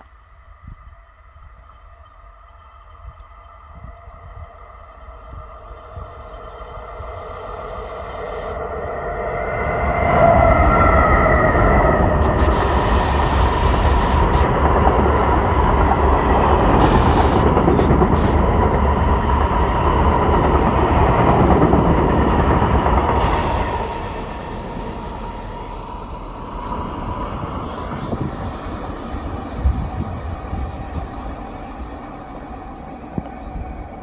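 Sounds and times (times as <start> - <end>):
locomotive whine: 0.1 - 34.0.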